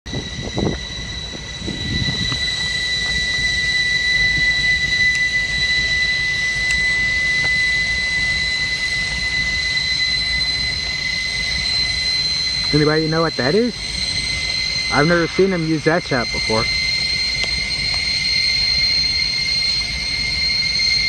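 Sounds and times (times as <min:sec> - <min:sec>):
machinery high-pitched whine: 0:00.0 - 0:21.0
low machinery rumble: 0:00.1 - 0:21.0.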